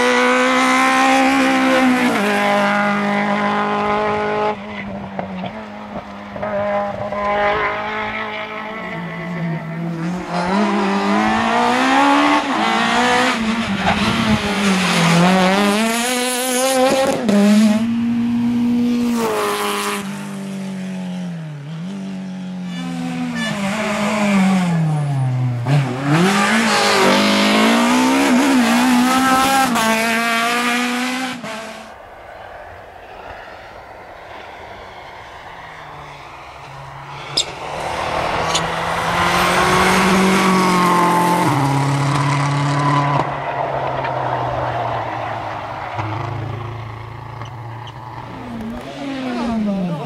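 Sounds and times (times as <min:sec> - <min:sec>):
rally car engines revving: 0:00.0 - 0:32.0, 0:32.8 - 0:50.0.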